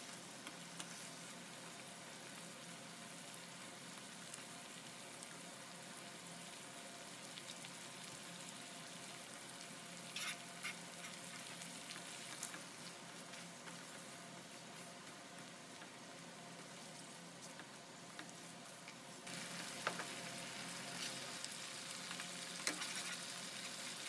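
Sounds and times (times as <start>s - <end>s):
chicken sizzling in butter: 0.0s - 24.0s.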